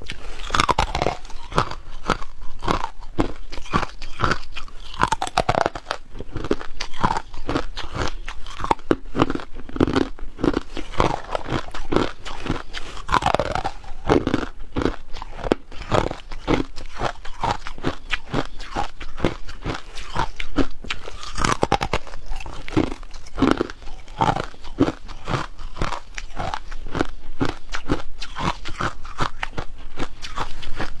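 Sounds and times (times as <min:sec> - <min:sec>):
chewing hard ice: 0:00.0 - 0:31.0.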